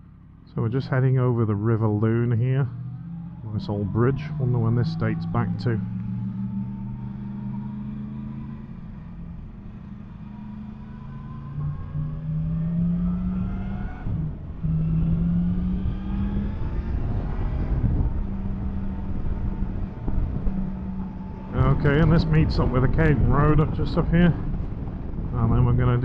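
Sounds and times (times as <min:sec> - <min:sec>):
motorcycle engine revving: 0:00.0 - 0:26.0
wind and road rumble: 0:00.0 - 0:26.0.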